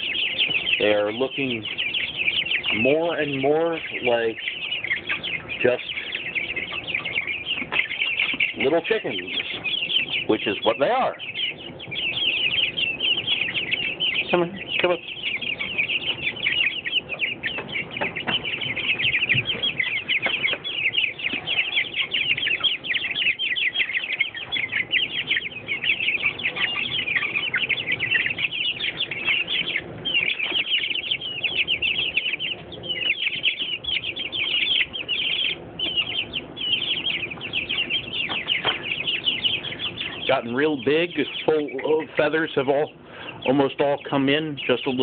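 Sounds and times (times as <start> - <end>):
chicks peeping: 0.0 - 45.0.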